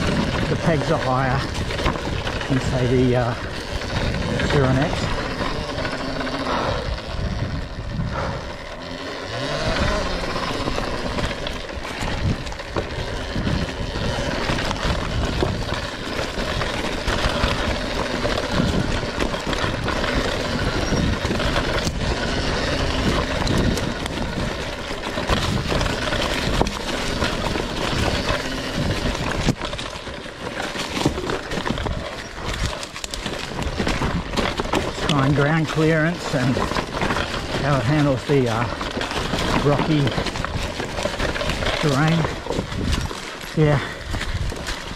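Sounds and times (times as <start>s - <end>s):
bike knocking on rocks: 0.0s - 6.6s, 9.3s - 44.9s
dirt bike rumble and rattle: 0.0s - 44.9s.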